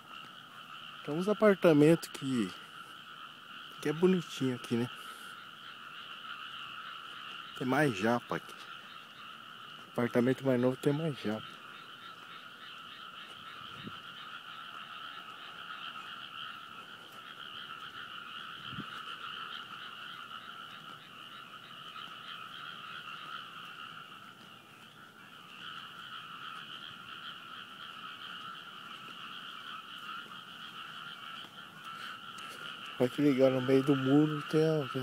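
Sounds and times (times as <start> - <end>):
chorus of frogs croaking: 0.0 - 35.0.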